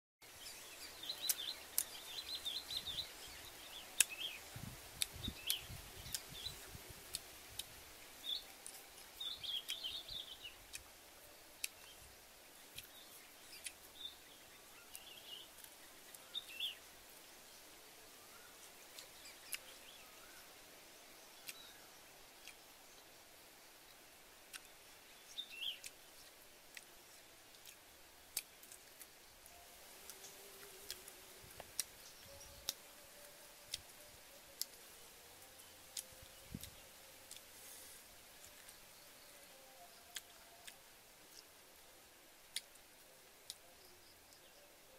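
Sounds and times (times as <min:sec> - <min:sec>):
small birds chirping: 0:00.2 - 0:44.9.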